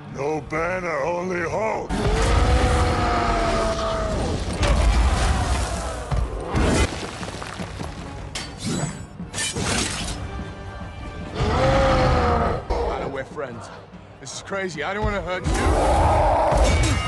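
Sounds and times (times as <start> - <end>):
dramatic music: 0.0 - 17.0.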